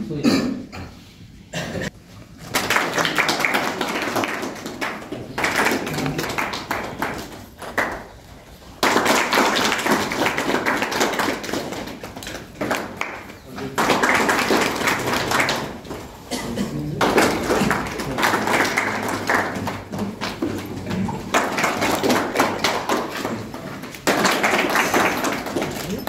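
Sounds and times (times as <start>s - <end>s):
group clapping: 2.3s - 26.0s.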